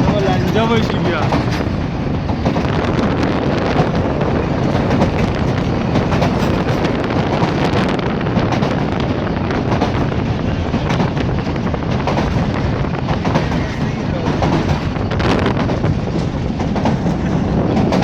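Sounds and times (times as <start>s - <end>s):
train running rumble: 0.0s - 18.0s
wind buffeting microphone: 0.0s - 18.0s.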